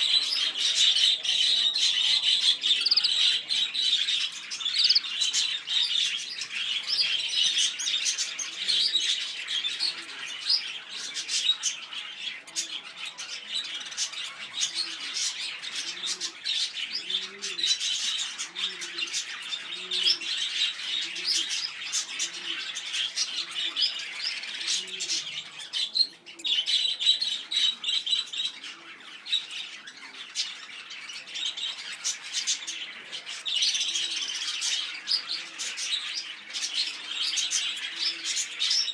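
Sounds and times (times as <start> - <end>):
lovebirds chattering and squawking: 0.0 - 38.9.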